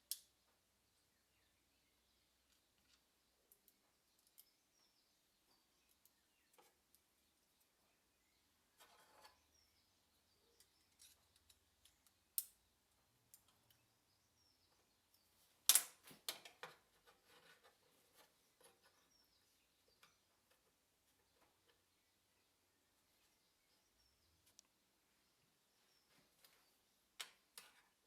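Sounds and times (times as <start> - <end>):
faint birdsong: 0.0 - 28.0.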